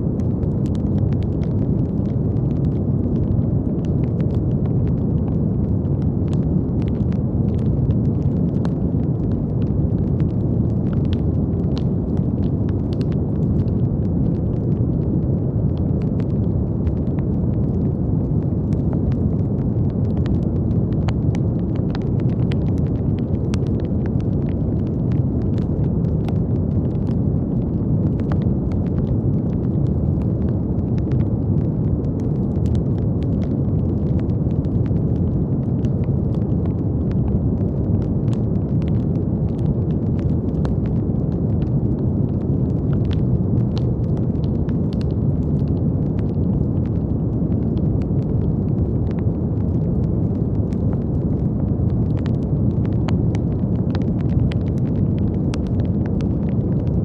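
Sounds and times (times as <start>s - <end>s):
deep rushing brown noise: 0.0s - 57.0s.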